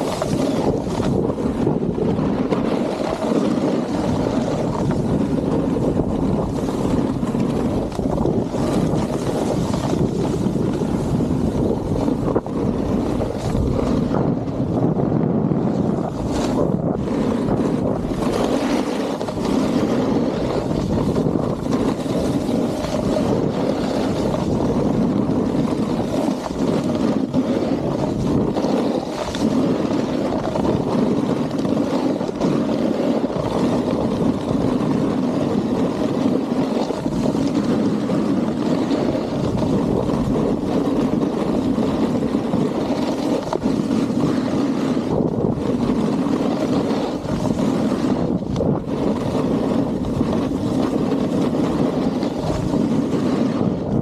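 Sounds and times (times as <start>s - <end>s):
snowboard carving on snow: 0.0s - 54.0s
wind on microphone: 0.0s - 54.0s.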